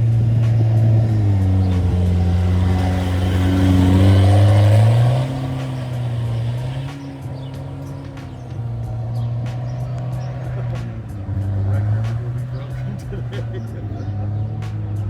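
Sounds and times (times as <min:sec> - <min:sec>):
rally car engine running hard: 0:00.0 - 0:15.0.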